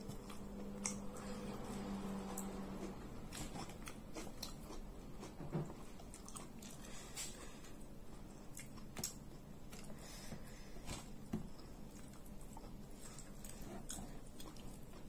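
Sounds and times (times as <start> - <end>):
person chewing soft food: 0.0 - 15.0.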